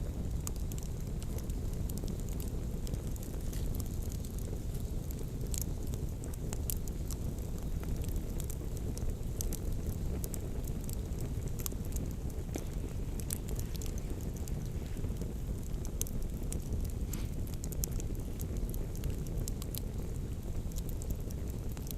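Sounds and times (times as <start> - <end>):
campfire crackling and popping: 0.0 - 21.9
wind rumble on microphone: 0.0 - 21.9.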